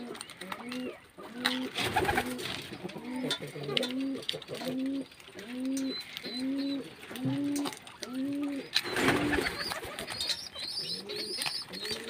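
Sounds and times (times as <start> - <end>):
low cooing calls: 0.0 - 12.0
rustling: 0.0 - 12.0.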